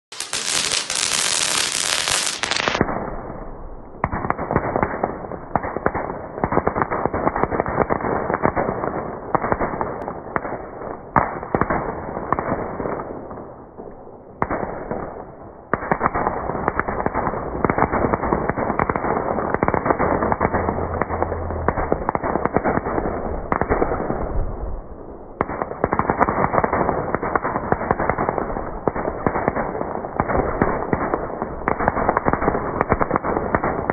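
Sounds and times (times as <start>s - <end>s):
firework crackling and hissing: 0.0s - 3.3s, 4.0s - 13.2s, 14.4s - 33.9s.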